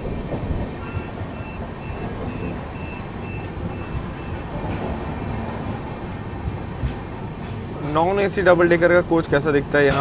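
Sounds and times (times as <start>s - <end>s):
train wheels rumbling on rail: 0.0s - 10.0s
wind: 0.0s - 10.0s.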